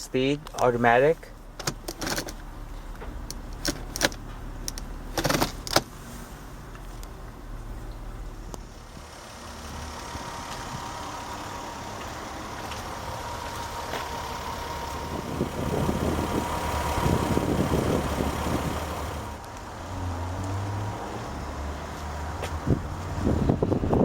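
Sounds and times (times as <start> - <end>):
car engine idling: 0.0 - 20.0
rough engine rumble: 0.0 - 24.0.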